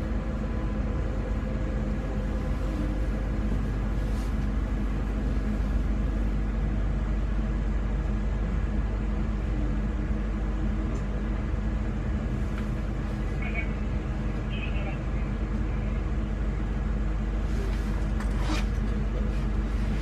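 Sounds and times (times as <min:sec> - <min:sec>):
train rumbling in motion: 0:00.0 - 0:20.0.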